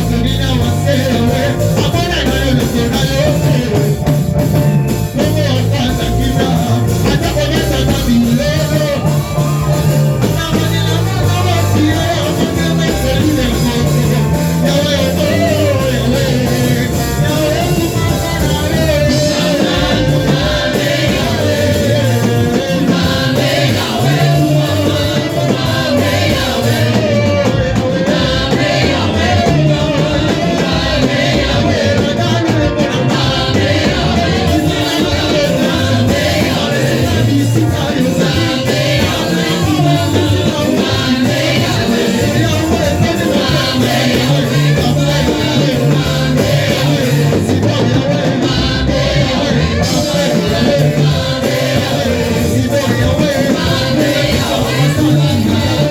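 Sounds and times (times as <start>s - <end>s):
gospel singing with band: 0.0s - 55.9s.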